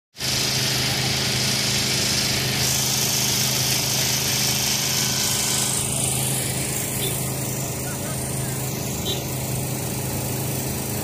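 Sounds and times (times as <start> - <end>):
engine running: 0.1 - 11.0
hiss: 0.2 - 11.0.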